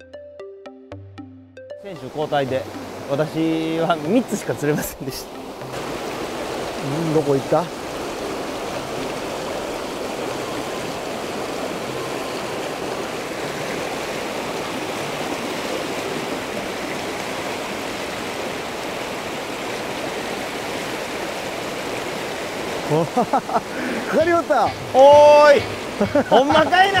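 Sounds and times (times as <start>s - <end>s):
river rapids over rocks: 2.0s - 27.0s.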